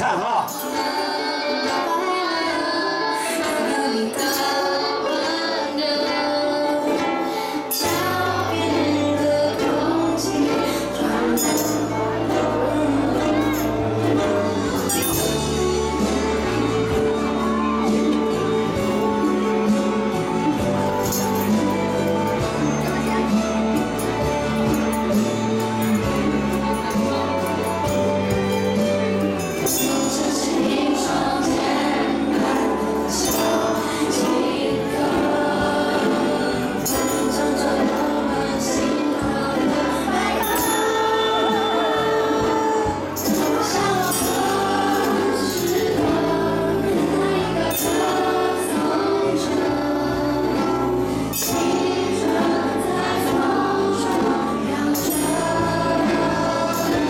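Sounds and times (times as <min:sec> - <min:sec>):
children singing: 0:00.0 - 0:57.0
ukuleles strumming: 0:00.0 - 0:57.0.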